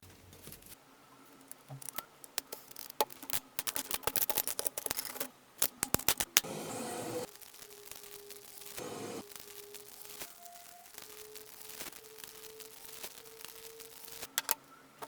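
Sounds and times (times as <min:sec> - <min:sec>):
sharp clicks of small hard objects: 0:01.4 - 0:06.5, 0:07.3 - 0:14.7.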